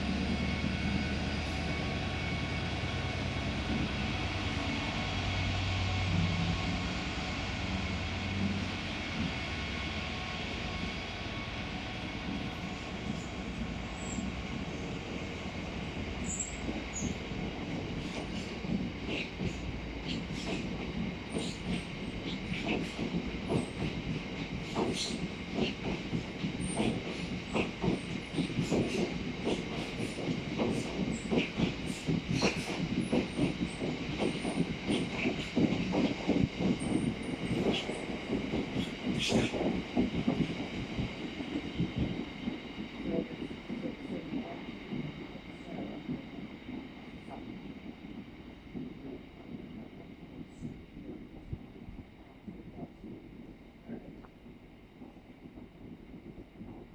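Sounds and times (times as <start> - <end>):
train rumbling on rails: 0.0 - 56.9.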